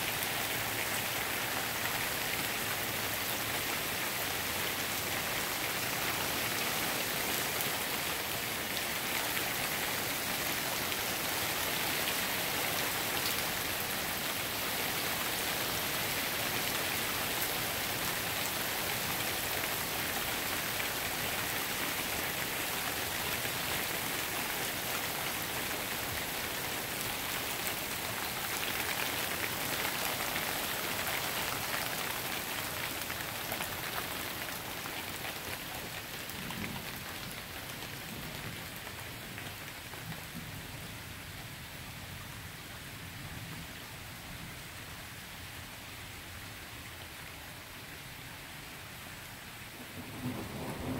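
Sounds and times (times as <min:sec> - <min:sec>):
rain on wet pavement: 0:00.0 - 0:50.9.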